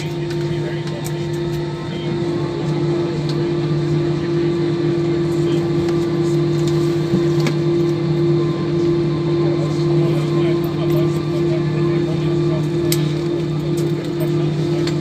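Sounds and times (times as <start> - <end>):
airliner cabin hum: 0.0 - 15.0.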